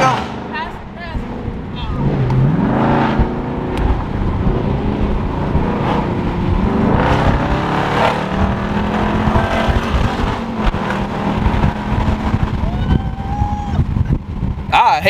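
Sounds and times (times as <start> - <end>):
car engine accelerating: 0.0 - 14.7.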